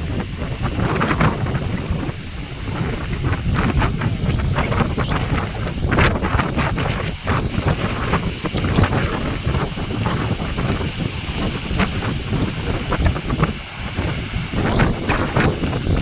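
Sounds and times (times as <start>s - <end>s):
sea waves splashing: 0.0s - 16.0s
wind buffeting microphone: 0.0s - 16.0s.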